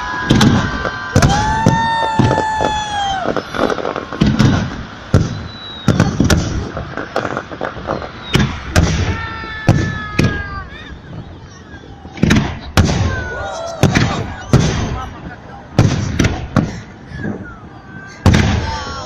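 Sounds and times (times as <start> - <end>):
fireworks booms and cracks: 0.0 - 19.0
fireworks whistling: 0.0 - 19.0.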